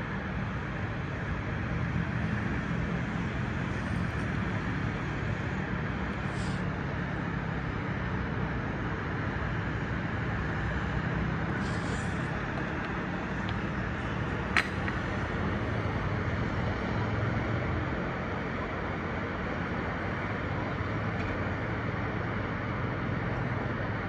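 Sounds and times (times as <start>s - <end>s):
city road traffic hum: 0.0s - 24.0s.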